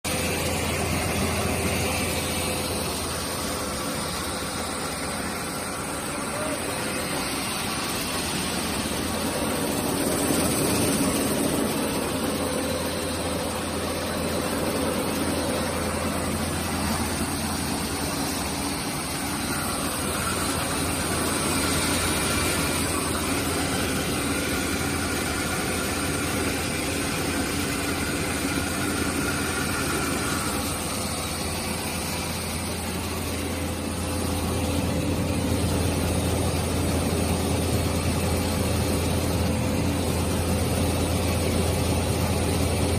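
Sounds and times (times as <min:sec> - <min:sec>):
rice milling machine running: 0:00.0 - 0:42.9.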